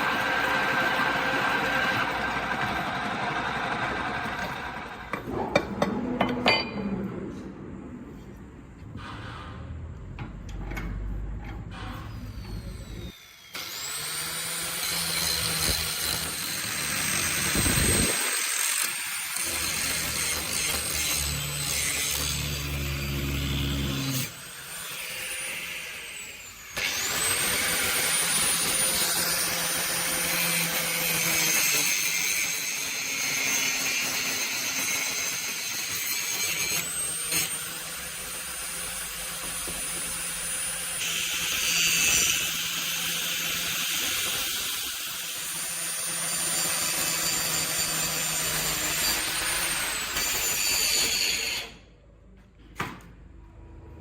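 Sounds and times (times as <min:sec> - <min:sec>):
electric grinder on steel: 0:00.0 - 0:05.3, 0:12.2 - 0:51.8.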